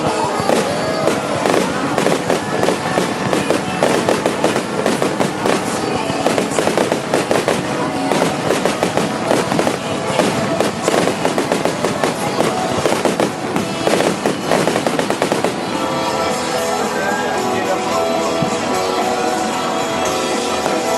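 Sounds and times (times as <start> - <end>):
fireworks crackling: 0.0 - 20.9.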